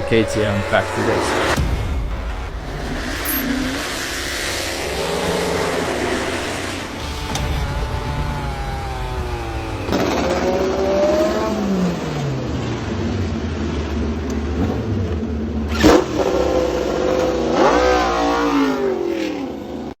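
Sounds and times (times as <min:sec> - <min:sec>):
racing motorcycle engine revving: 0:00.0 - 0:20.0.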